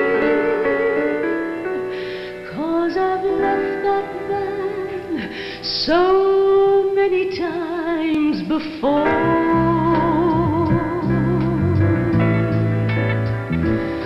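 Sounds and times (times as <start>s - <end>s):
musical accompaniment: 0.0s - 7.4s, 8.1s - 14.0s
woman singing opera: 0.0s - 11.8s.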